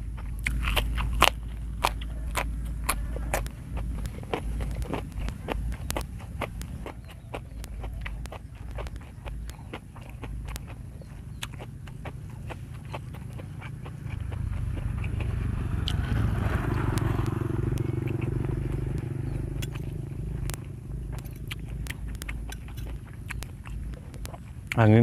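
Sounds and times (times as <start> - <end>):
chewing with crunching clicks: 0.0 - 25.0
vehicle engine passing: 0.0 - 25.0.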